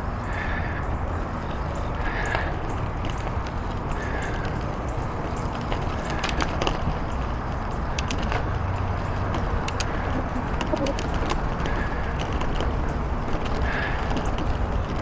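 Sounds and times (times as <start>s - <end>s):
bicycle tyres on rough trail: 0.0s - 15.0s
bike clicks and rattles: 0.0s - 15.0s
wind noise: 0.0s - 15.0s.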